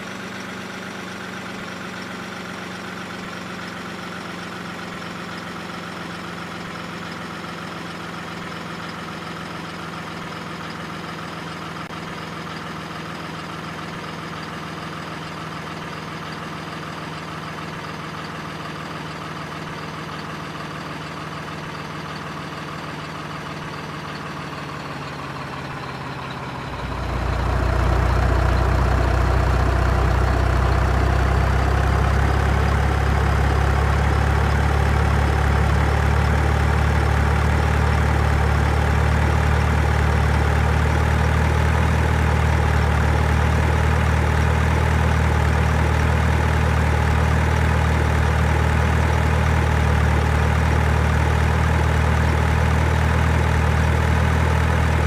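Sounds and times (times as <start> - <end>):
simulated truck engine sound: 0.0 - 55.0.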